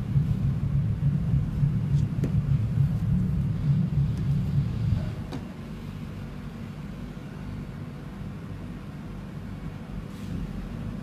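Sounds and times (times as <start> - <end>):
low fluttering rumble: 0.0 - 11.0.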